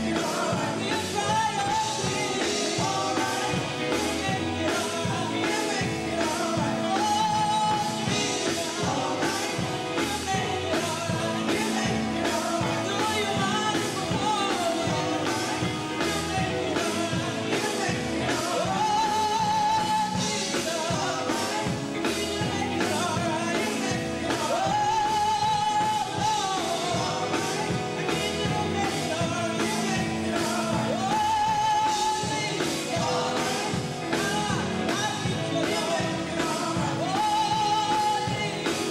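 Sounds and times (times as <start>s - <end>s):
bass guitar: 0.0s - 38.9s
drum kit playing a beat: 0.0s - 38.9s
electric guitar: 0.0s - 38.9s
women singing gospel: 0.0s - 38.9s.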